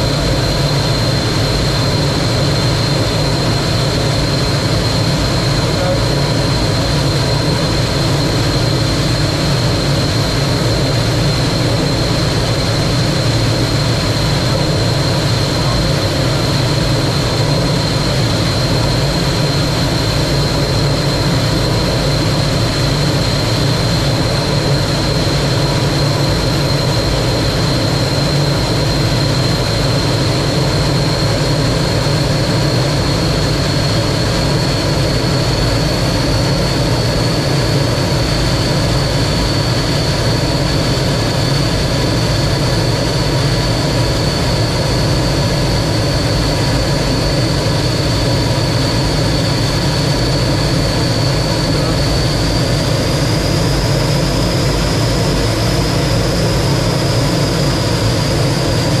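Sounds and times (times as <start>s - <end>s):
high engine whine: 0.0s - 59.0s
jet engine rumble: 0.0s - 59.0s.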